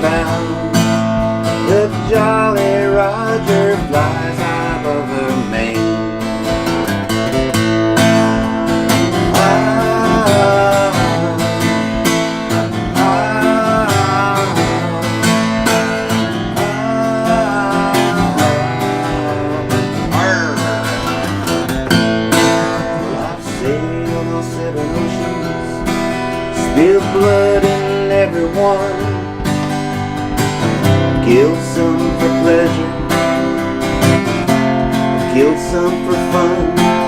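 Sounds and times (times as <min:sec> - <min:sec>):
wavering sliding lead melody: 0:00.0 - 0:35.4
strummed acoustic guitar: 0:00.0 - 0:37.0.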